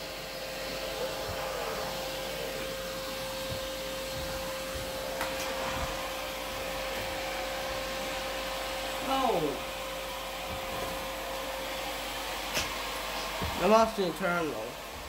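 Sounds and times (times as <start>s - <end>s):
shop vacuum whining: 0.0s - 15.0s.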